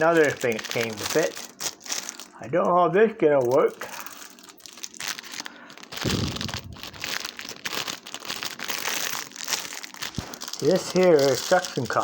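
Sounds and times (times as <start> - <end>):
packaging crinkling: 0.0 - 2.7, 3.3 - 12.0.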